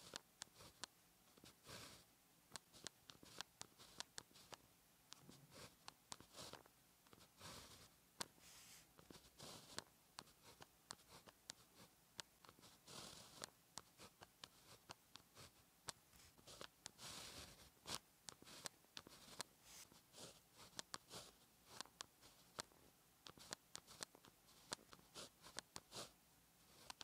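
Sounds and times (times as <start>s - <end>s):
pen writing on paper: 0.0s - 2.0s, 2.6s - 11.9s, 12.5s - 15.6s, 16.2s - 22.7s, 23.3s - 27.0s.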